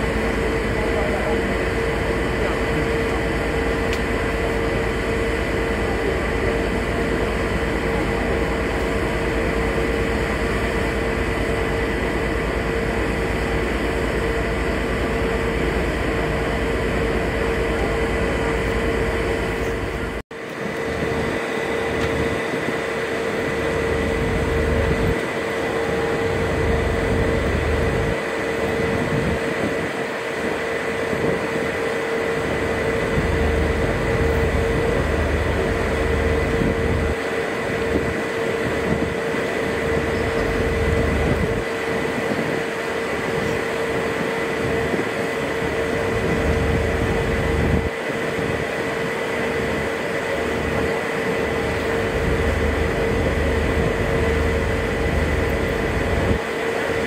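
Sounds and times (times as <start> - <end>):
low engine rumble: 0.0 - 57.0
ship engine humming: 0.0 - 57.0.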